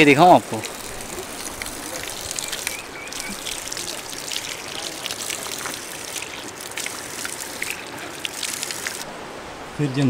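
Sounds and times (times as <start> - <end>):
water trickling onto a hand: 0.5 - 9.1.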